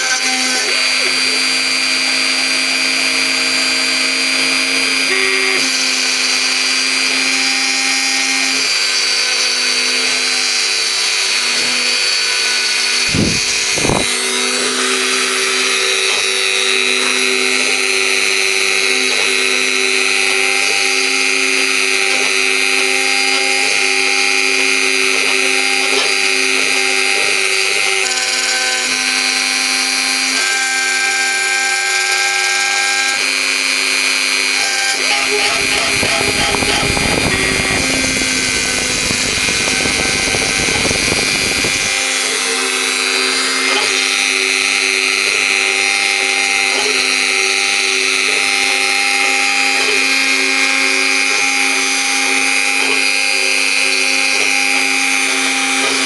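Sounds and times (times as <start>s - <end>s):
router spindle whining: 0.0s - 56.0s
wood cutting noise: 0.0s - 56.0s.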